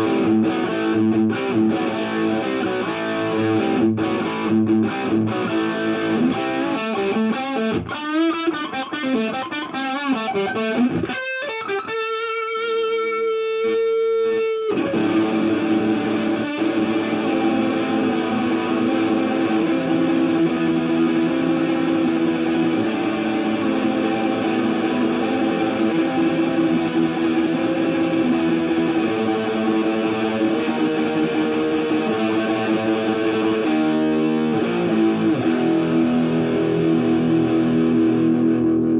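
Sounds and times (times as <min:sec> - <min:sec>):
electric guitar riffing: 0:00.0 - 0:38.9.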